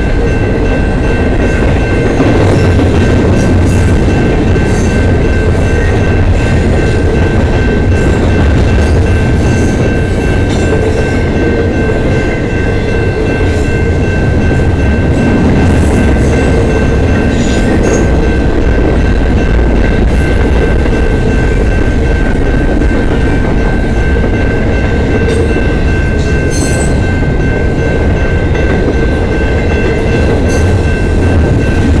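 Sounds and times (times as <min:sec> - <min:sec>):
freight train wheels rumbling: 0:00.0 - 0:32.0
steady high-pitched tone: 0:00.0 - 0:32.0.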